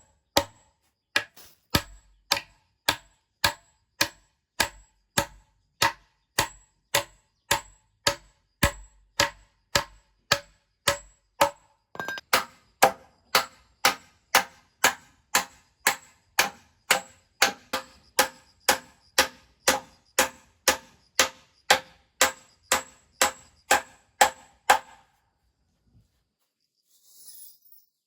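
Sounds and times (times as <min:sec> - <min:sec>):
hand tool striking wood: 0:00.3 - 0:25.1.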